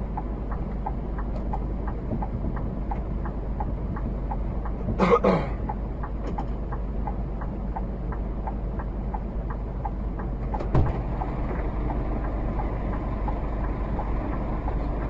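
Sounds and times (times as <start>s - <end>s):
light repeating tick: 0.0s - 5.0s, 5.6s - 15.0s
car interior rumble: 0.0s - 15.0s.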